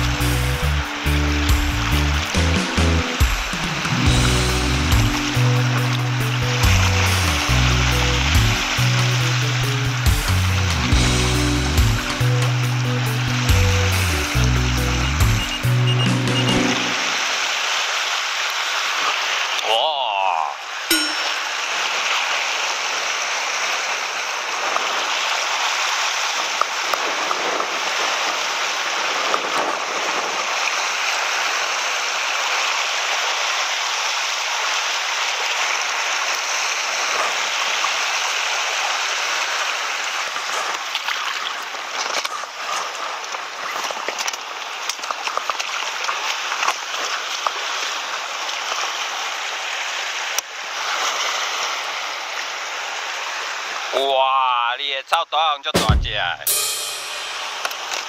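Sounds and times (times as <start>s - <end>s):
seawater rushing over rocks: 0.0s - 14.9s, 16.3s - 54.0s.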